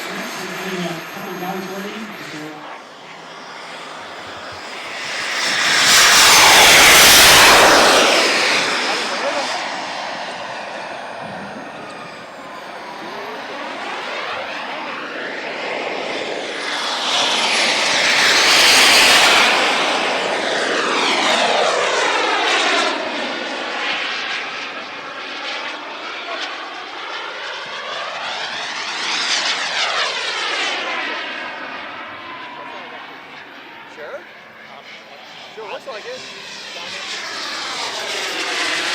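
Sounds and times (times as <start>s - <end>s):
model jet flying past: 0.0s - 38.9s.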